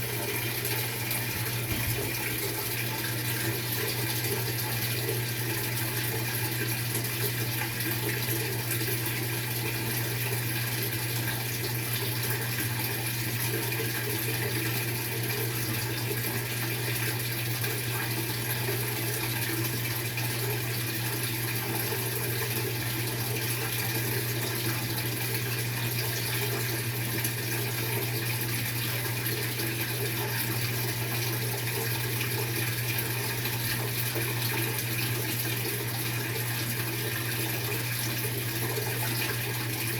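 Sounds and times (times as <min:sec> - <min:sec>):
water running in washing machine: 0:00.0 - 0:39.9.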